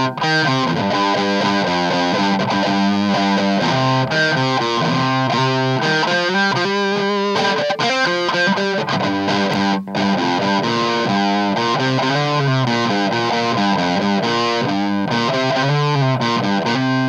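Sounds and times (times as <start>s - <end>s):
distorted electric guitar riffs: 0.0s - 17.0s.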